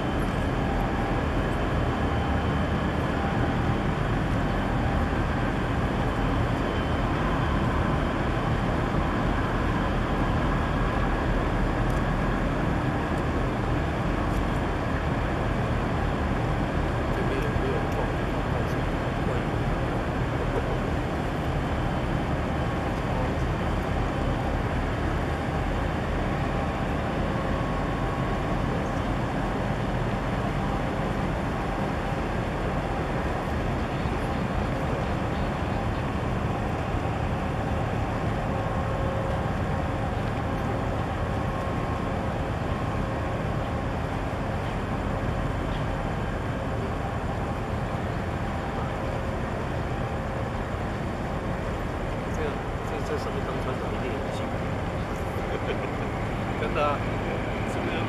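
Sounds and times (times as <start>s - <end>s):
ship engines rumbling: 0.0s - 58.0s.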